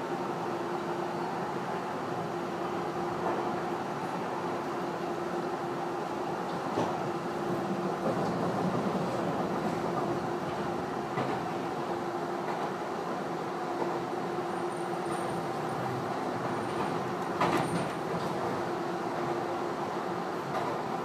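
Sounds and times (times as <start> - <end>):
constant train hum: 0.0 - 21.0
train wheels rumbling on rail: 0.0 - 21.0.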